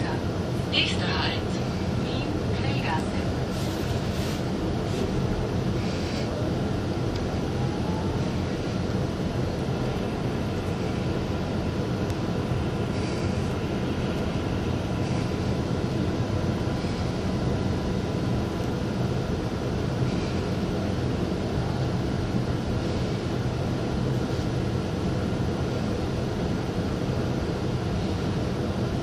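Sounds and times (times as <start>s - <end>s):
train cabin low rumble: 0.0s - 29.0s.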